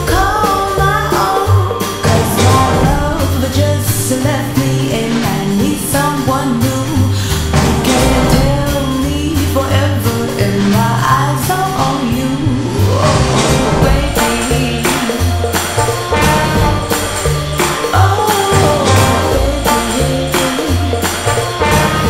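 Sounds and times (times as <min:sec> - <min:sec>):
song with singing and beat: 0:00.0 - 0:22.0.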